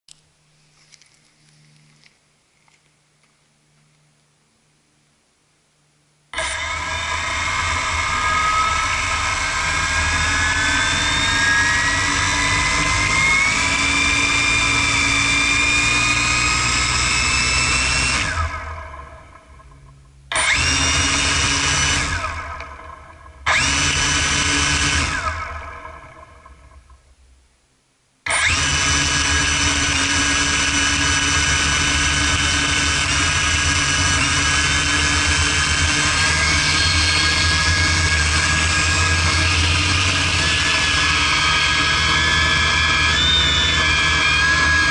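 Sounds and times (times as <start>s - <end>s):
quadcopter motors whining: 6.4s - 19.7s, 20.3s - 26.8s, 28.3s - 44.9s.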